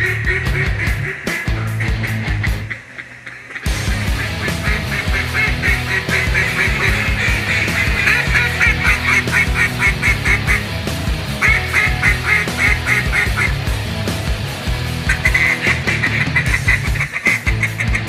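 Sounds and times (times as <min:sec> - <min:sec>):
rock music with drum beat: 0:00.0 - 0:03.0, 0:03.6 - 0:18.0
duck quacks: 0:00.0 - 0:10.8, 0:11.4 - 0:13.7, 0:15.0 - 0:18.0.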